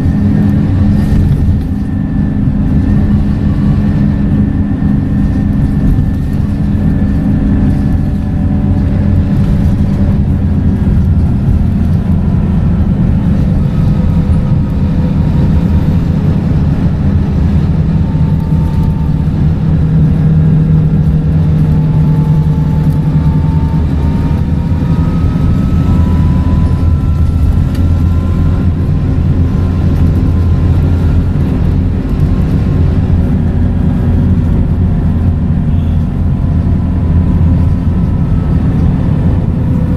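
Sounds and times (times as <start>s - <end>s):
bus engine drone: 0.0s - 39.9s
faint gearbox whine: 0.0s - 39.9s.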